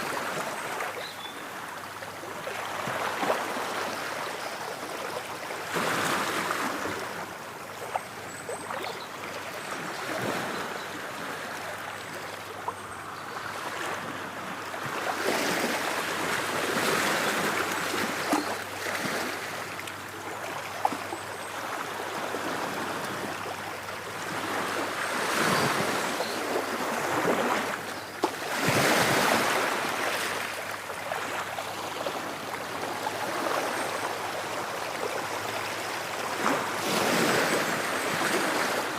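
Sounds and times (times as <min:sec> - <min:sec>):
ocean waves breaking on shore: 0:00.0 - 0:08.0, 0:13.4 - 0:38.9.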